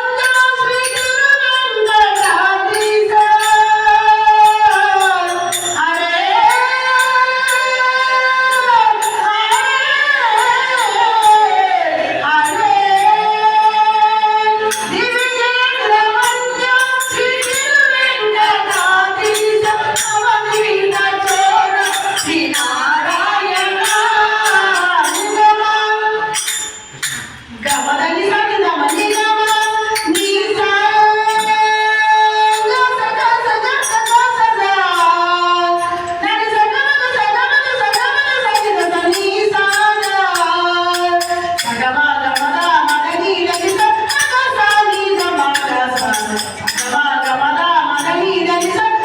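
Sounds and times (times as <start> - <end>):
jingling hand percussion: 0.0 - 49.0.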